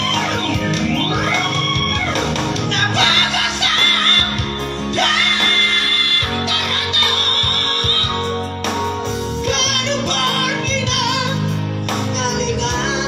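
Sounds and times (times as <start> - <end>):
instrumental backing: 0.0 - 13.0
vocal trio singing: 0.0 - 13.0.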